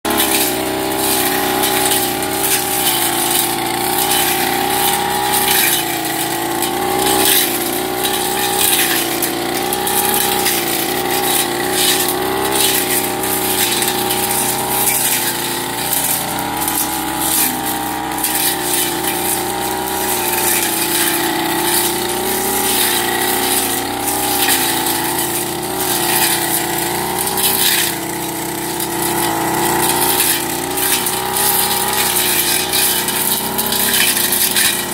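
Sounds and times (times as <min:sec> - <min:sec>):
brush cutter engine running: 0:00.0 - 0:34.9
cutting head ticking on weeds: 0:00.1 - 0:34.9.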